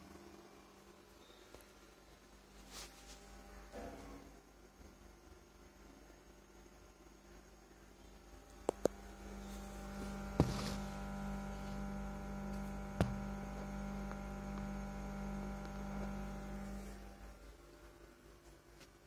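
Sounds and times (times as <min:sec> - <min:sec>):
mains hum from woofer: 0:00.0 - 0:19.0.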